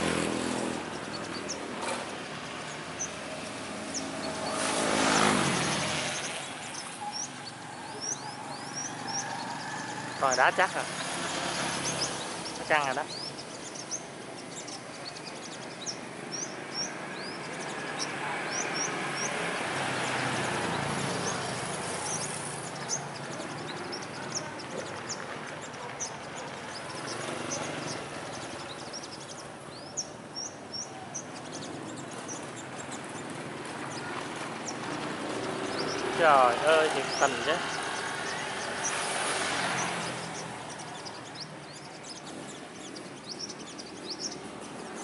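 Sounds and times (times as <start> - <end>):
sunbirds chirping: 0.0 - 45.0.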